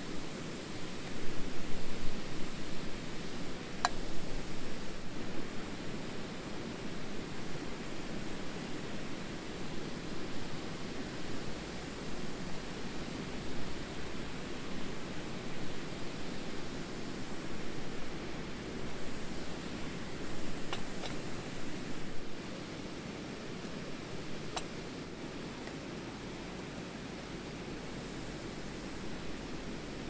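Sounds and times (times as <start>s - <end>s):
steady rushing noise outdoors: 0.0s - 30.0s.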